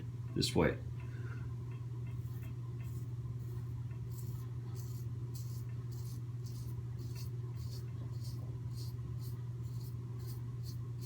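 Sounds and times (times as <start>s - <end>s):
razor scraping stubble: 2.1s - 11.0s.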